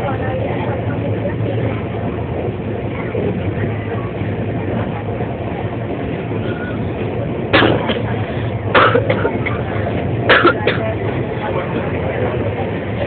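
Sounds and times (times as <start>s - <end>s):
train running noise from inside: 0.0s - 13.0s.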